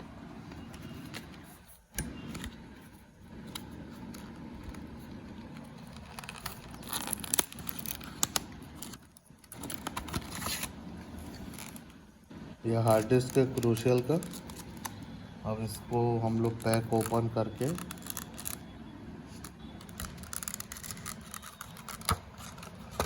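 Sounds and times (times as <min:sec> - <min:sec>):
handling clicks scrapes and crackles: 0:00.5 - 0:12.0, 0:12.9 - 0:15.0, 0:16.3 - 0:18.7, 0:19.3 - 0:23.0.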